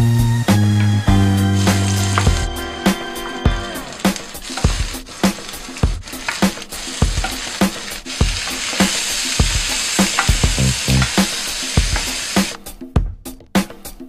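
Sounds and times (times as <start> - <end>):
background music with steady beat: 0.0 - 14.0
vegetables sizzling in a pan: 1.3 - 12.6.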